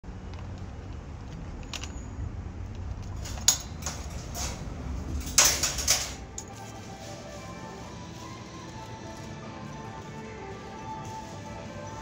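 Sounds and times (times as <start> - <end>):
low steady rumble: 0.0 - 10.6
trolley metal rattling: 0.2 - 10.8.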